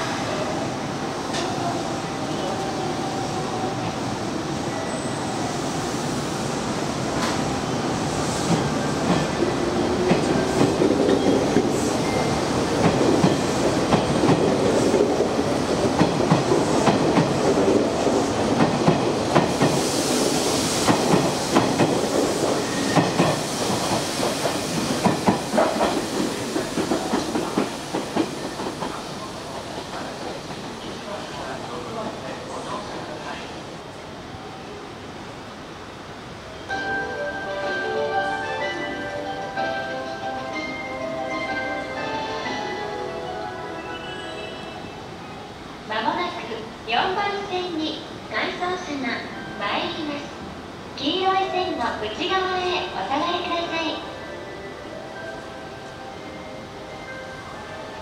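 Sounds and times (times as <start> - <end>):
electric train running on tracks: 0.0 - 58.0.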